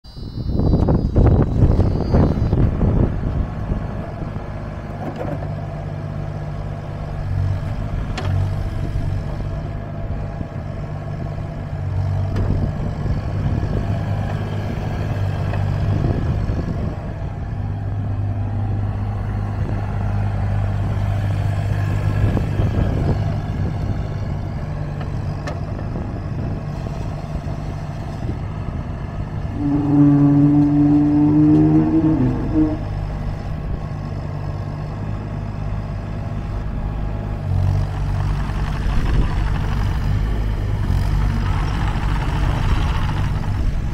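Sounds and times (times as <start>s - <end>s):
excavator diesel engine running: 0.2s - 43.9s.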